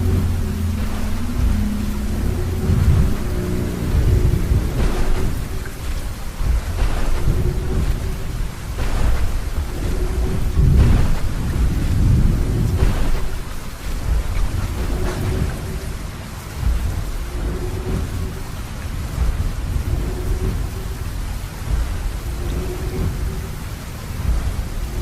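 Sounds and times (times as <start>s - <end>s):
rolling thunder: 0.0s - 25.0s
steady rain: 0.0s - 25.0s.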